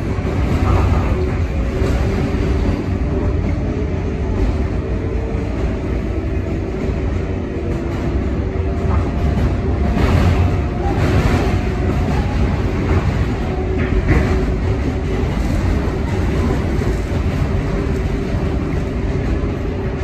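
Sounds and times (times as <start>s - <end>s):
rail clatter: 0.0s - 20.0s
subway car wheels rumbling: 0.0s - 20.0s.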